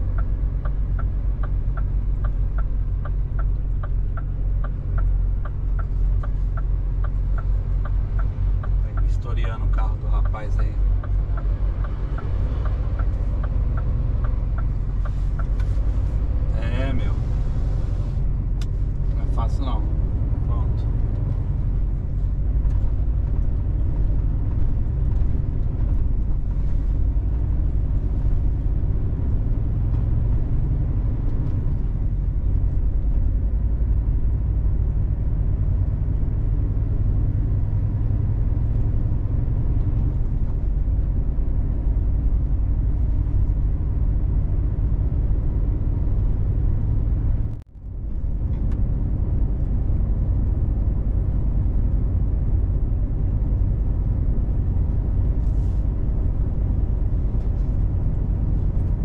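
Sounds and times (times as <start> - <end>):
truck engine and tyres rumbling: 0.0 - 59.0.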